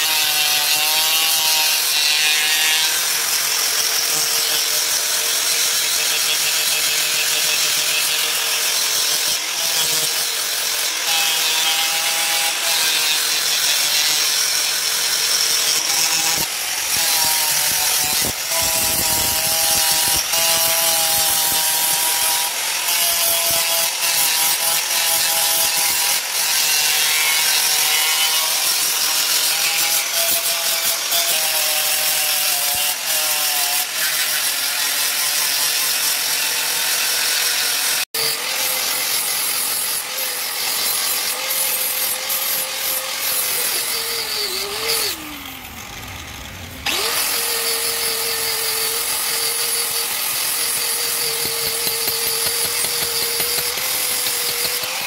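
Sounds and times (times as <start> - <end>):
angle grinder grinding metal: 0.0 - 55.0.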